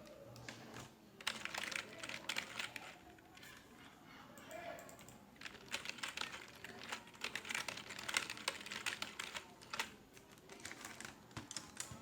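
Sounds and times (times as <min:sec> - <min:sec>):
computer keyboard typing: 0:00.7 - 0:03.5, 0:04.4 - 0:12.0.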